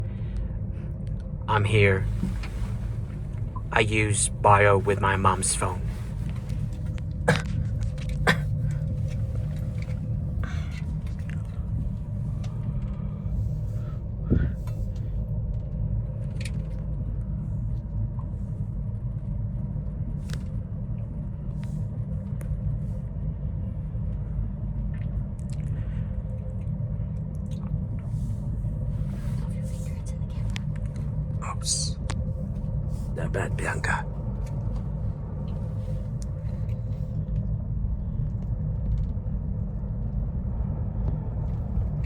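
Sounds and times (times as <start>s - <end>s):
faint steady hum: 0.0s - 42.0s
gondola cabin rumble: 0.0s - 42.0s.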